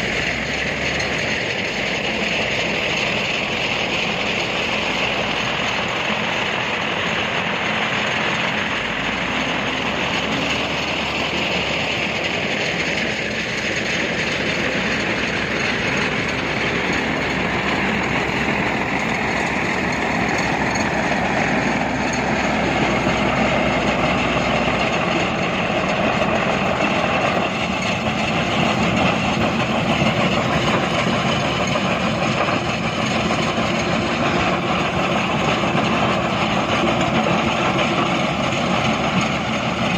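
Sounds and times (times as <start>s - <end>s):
heavy construction machinery running: 0.0s - 39.9s.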